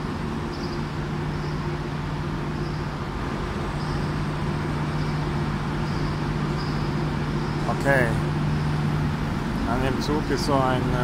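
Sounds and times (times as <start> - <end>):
standing train humming: 0.0 - 11.0.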